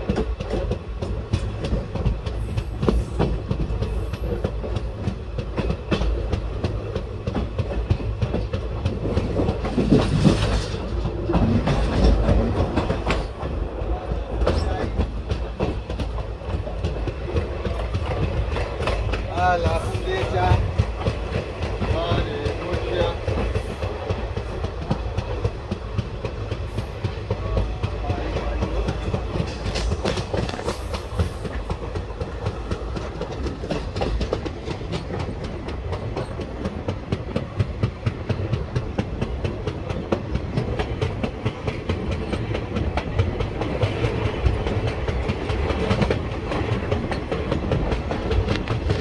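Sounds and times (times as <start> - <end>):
train wheels clattering over rails: 0.0 - 49.0.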